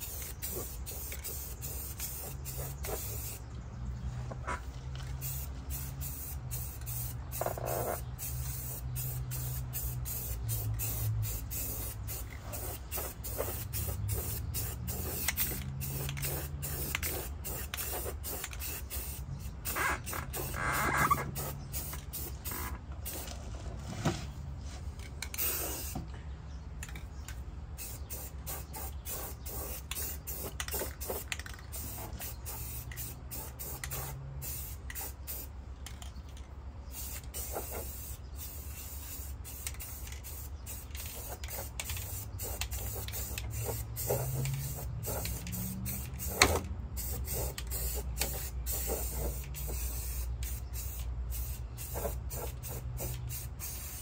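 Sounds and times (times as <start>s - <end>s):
aerosol can spraying: 0.0s - 3.4s, 5.1s - 23.2s, 25.3s - 26.0s, 27.8s - 35.5s, 37.0s - 54.0s.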